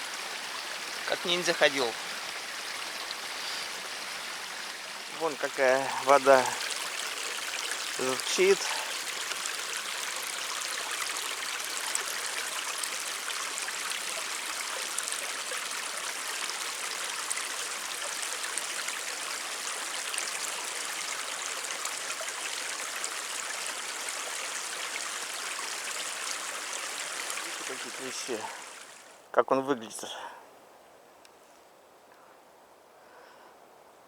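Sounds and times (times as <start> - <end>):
stream babbling: 0.0 - 30.4.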